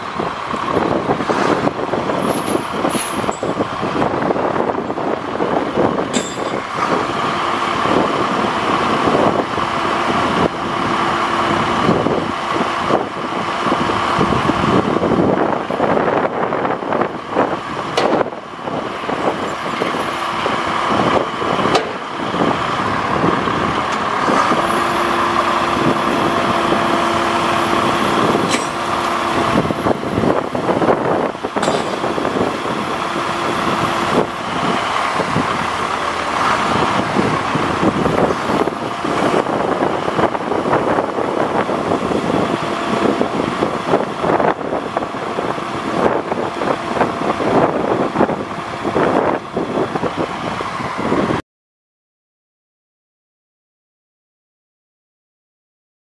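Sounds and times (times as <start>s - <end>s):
diesel truck engine running: 0.0s - 51.4s
hydraulic boom whine: 0.1s - 51.4s.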